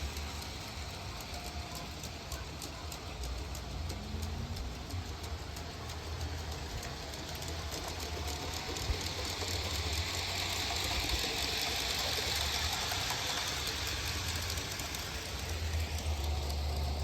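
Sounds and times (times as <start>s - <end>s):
hiss: 0.0s - 17.0s
model train rumble: 0.0s - 17.0s
wheels clicking on rails: 0.0s - 17.0s.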